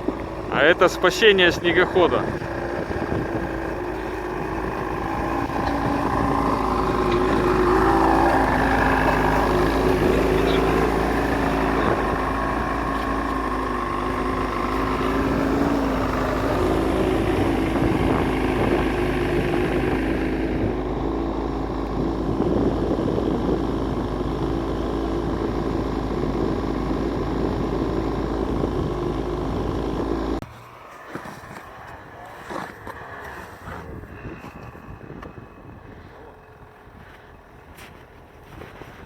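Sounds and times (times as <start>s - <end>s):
snowmobile engine running: 0.0s - 39.0s.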